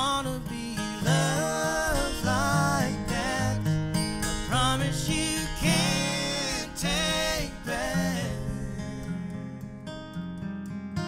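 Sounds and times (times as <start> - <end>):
acoustic guitar: 0.0 - 11.0
bass: 0.0 - 11.0.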